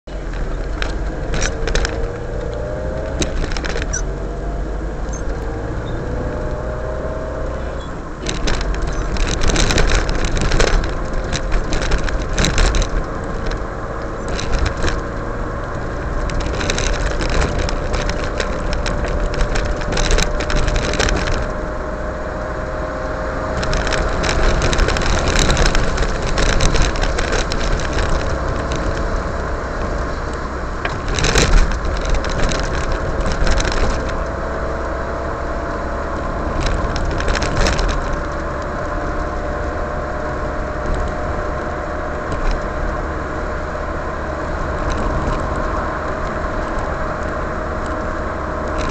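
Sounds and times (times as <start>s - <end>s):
car engine and tyre noise: 0.0s - 48.9s
light rattling and clicking: 0.1s - 4.2s, 7.3s - 21.8s, 23.0s - 48.9s.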